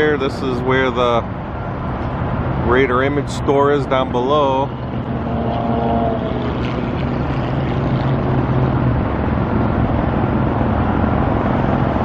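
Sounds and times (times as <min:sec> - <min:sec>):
cars passing: 0:00.0 - 0:12.0
low engine hum: 0:00.0 - 0:12.0.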